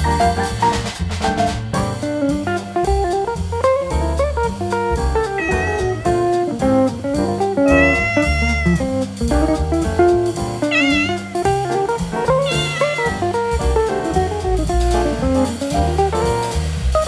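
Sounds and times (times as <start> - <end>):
instrumental guitar music with bass: 0.0 - 17.0.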